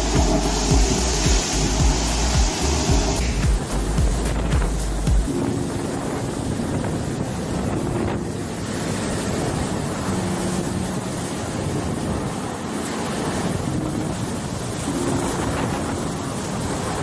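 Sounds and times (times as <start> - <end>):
driving rain: 0.0 - 17.0
strong wind: 0.0 - 17.0
wind buffeting microphone: 0.0 - 17.0.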